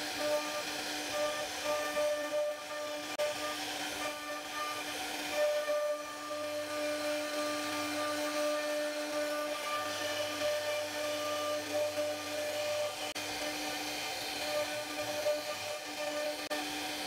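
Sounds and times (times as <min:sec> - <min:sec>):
hiss of wood cutting: 0:00.0 - 0:17.0
router spindle whining: 0:00.0 - 0:17.0.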